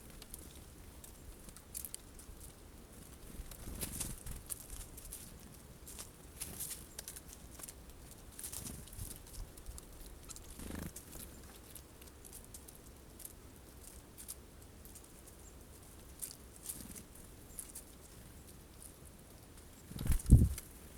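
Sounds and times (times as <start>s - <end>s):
birds pecking seeds: 0.0s - 20.9s.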